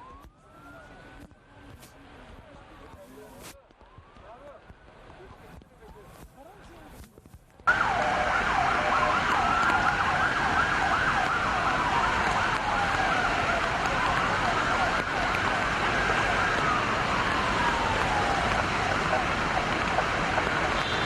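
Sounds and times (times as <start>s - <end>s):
emergency sirens wailing: 0.0s - 3.0s, 3.7s - 5.0s, 7.7s - 21.0s
background rush of noise: 0.0s - 21.0s.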